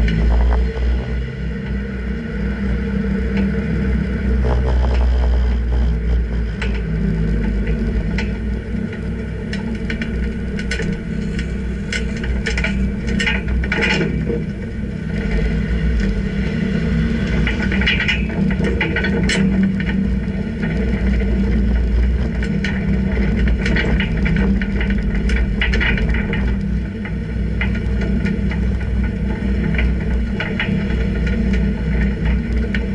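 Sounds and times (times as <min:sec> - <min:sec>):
rattles and clicks: 0:00.0 - 0:01.8, 0:04.3 - 0:32.9
car engine and road rumble: 0:00.0 - 0:32.9.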